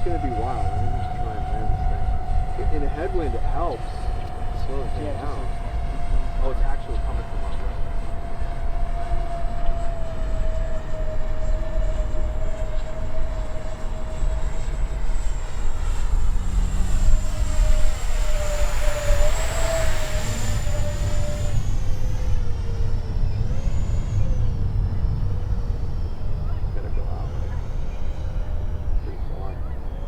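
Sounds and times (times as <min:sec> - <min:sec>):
electric fans whining: 0:00.0 - 0:30.0
wind rumble on microphone: 0:00.0 - 0:30.0.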